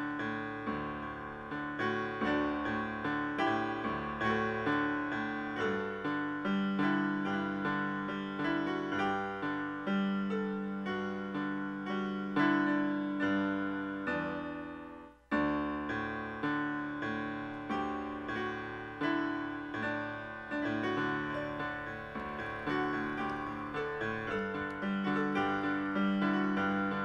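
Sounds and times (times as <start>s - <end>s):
solo piano music: 0.0s - 27.0s.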